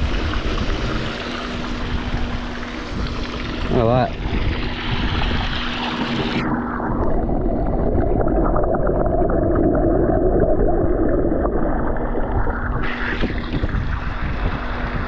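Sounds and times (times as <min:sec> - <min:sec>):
underwater rushing and gurgling: 0:00.0 - 0:15.0.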